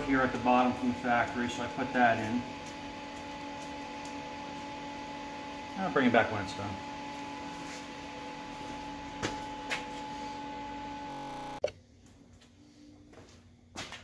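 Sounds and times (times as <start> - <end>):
workshop background hum: 0.0 - 14.0.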